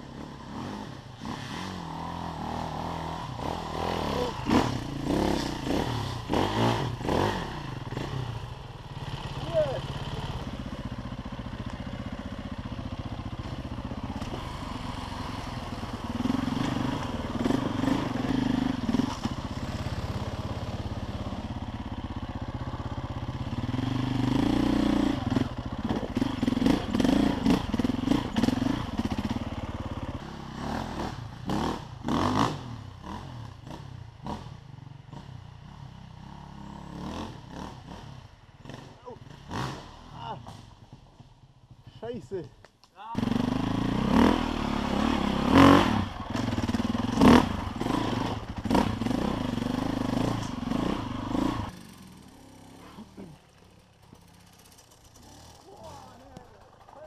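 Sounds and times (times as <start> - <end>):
motorcycle engine revving: 0.0 - 42.1, 43.1 - 57.0.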